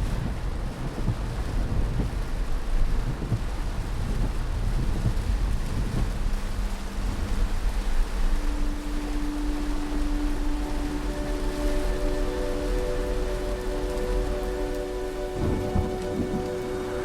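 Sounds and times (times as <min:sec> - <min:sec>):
gusting wind on microphone: 0:00.0 - 0:17.0
heavy rain: 0:00.0 - 0:17.0.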